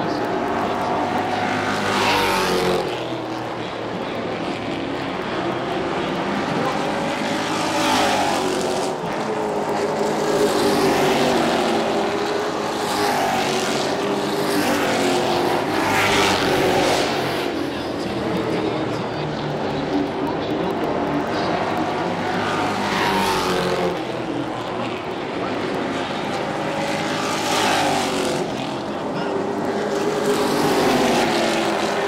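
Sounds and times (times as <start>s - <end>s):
race truck engines passing: 0.0s - 32.0s.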